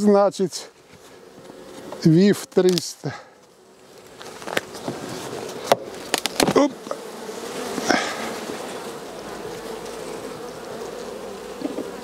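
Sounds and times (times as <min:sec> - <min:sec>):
bees buzzing: 0:00.0 - 0:12.0
hive box scraping: 0:00.8 - 0:12.0.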